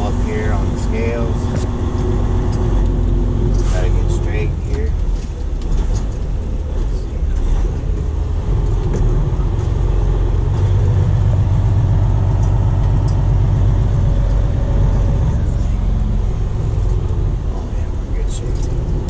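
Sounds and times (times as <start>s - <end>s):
diesel truck engine rumble: 0.0s - 19.0s.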